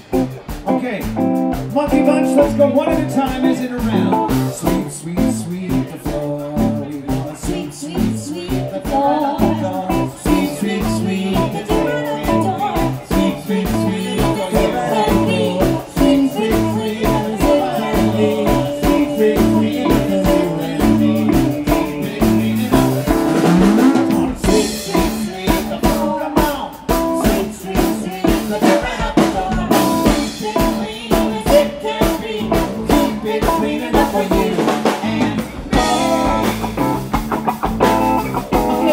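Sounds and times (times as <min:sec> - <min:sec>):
electric guitars: 0:00.0 - 0:06.0, 0:06.6 - 0:26.1, 0:26.9 - 0:38.9
drum kit: 0:00.0 - 0:38.9
man singing: 0:00.7 - 0:36.6, 0:38.5 - 0:38.9.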